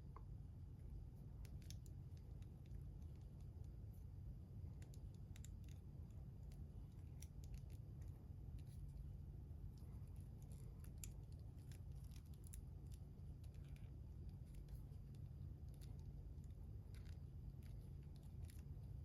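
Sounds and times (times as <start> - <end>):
steady low hum: 0.0 - 19.0
small clicks of handling plastic: 1.4 - 3.8, 4.7 - 9.1, 9.7 - 19.0.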